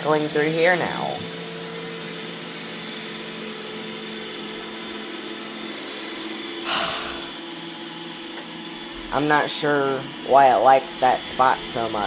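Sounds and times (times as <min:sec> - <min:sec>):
robot vacuum running: 0:00.0 - 0:12.0.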